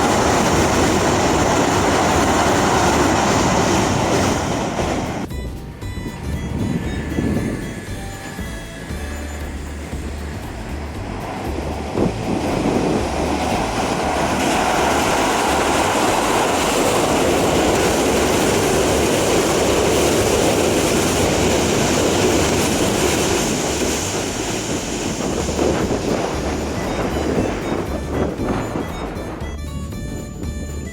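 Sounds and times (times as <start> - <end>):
electric train crossing a bridge: 0.0 - 30.9.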